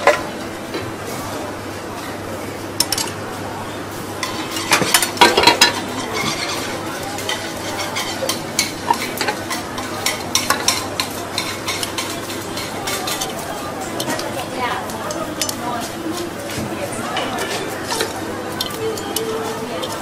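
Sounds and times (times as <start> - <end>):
utensils clinking on metal: 2.8 - 3.2, 4.2 - 20.0.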